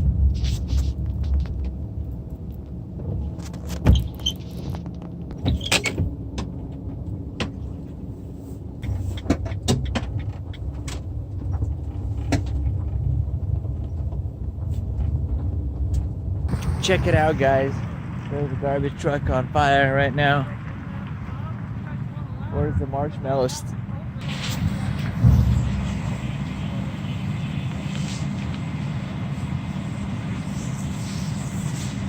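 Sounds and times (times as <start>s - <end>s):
vehicle rumble: 0.0s - 32.0s.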